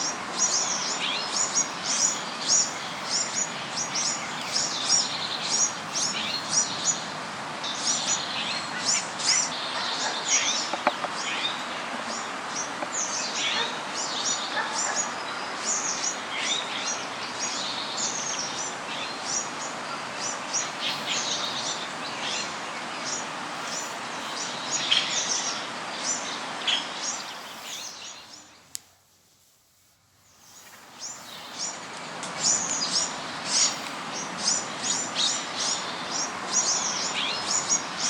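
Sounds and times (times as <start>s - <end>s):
small birds chirping: 0.0s - 28.9s, 30.2s - 38.0s
steady background hiss: 0.0s - 38.0s.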